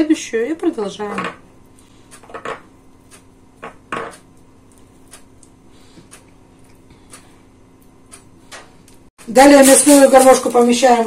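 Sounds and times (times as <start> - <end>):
faint steady hum: 0.0 - 9.1.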